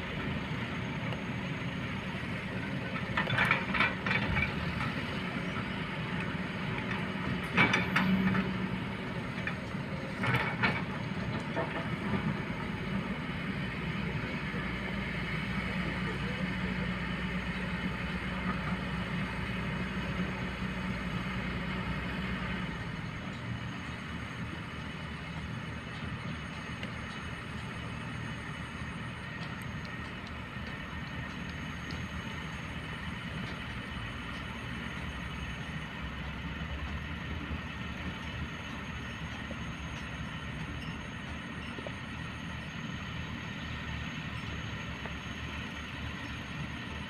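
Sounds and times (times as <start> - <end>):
truck engines running: 0.0 - 47.0.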